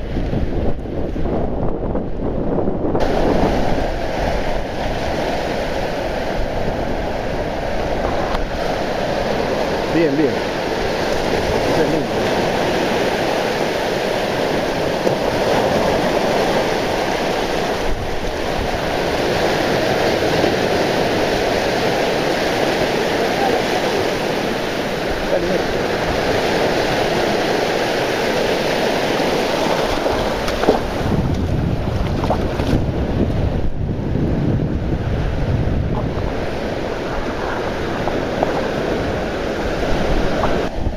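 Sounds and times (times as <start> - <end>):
surf breaking on sand: 0.0 - 40.9
wind rumbling on microphone: 0.0 - 40.9.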